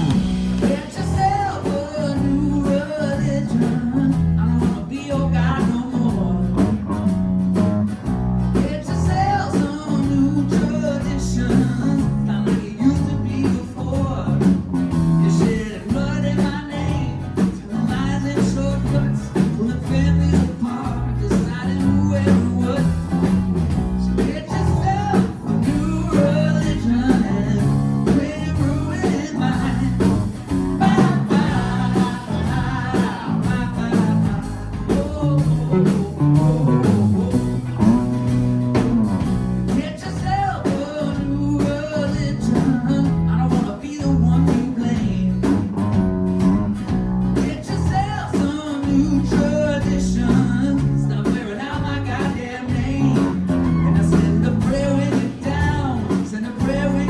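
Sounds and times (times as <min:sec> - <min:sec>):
man singing: 0:00.0 - 0:07.4, 0:08.5 - 0:45.7, 0:47.3 - 0:57.0
electric guitar: 0:00.0 - 0:57.0
pop-rock band playing: 0:00.0 - 0:57.0.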